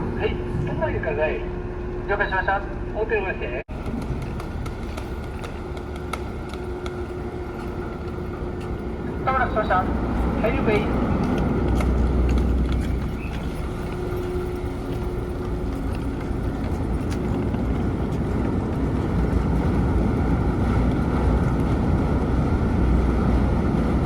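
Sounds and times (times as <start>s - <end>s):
low rumble of ship engines: 0.0s - 24.0s.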